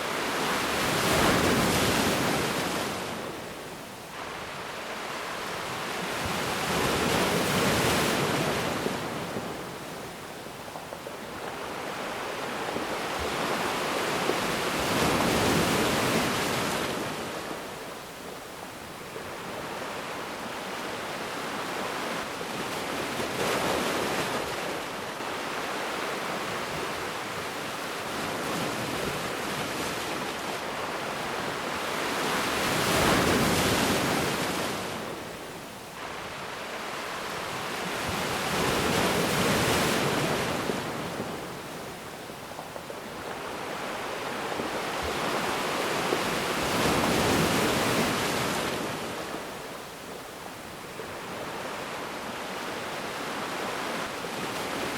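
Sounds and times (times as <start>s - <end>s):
ocean waves breaking on beach: 0.0s - 54.9s.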